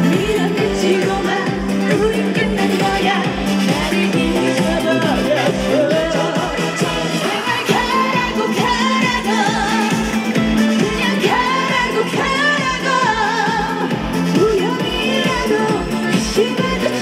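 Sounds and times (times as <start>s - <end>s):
person singing with vibrato: 0.0s - 17.0s
pop song through sound system: 0.0s - 17.0s.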